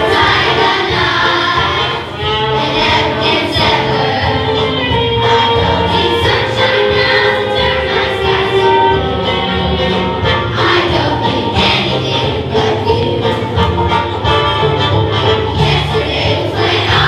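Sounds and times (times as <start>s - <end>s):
children singing in chorus: 0.0s - 14.2s, 15.5s - 17.0s
instrumental accompaniment: 0.0s - 17.0s.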